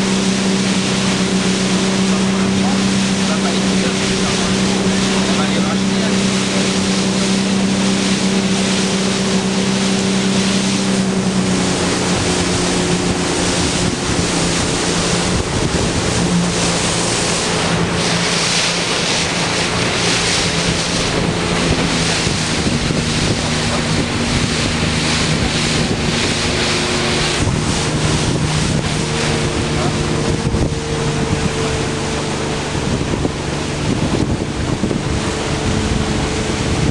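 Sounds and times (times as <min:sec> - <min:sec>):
motorboat engine hum: 0:00.0 - 0:36.9
water rushing past hull: 0:00.0 - 0:36.9
wind buffeting microphone: 0:00.0 - 0:36.9.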